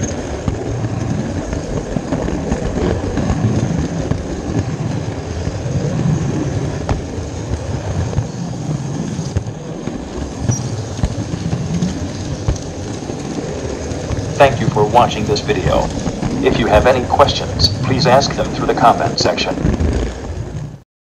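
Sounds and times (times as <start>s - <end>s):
rail clicks: 0.0s - 20.3s
model train wheels rumbling: 0.0s - 20.8s.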